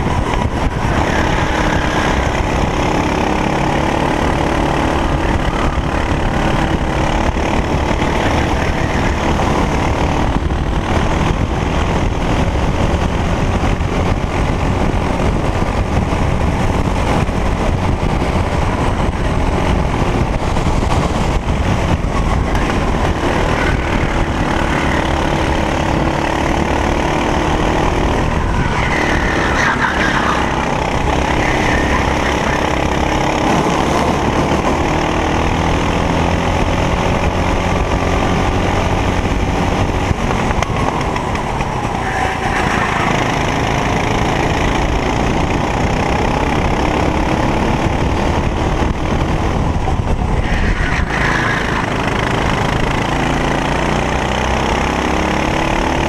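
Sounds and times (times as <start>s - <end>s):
racing kart engine revving: 0.0s - 56.0s.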